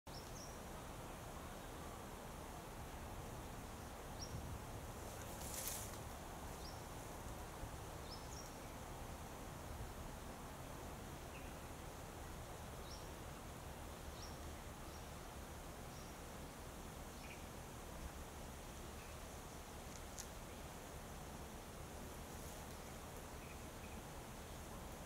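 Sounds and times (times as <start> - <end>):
noisy rustle: 0.1 - 25.0.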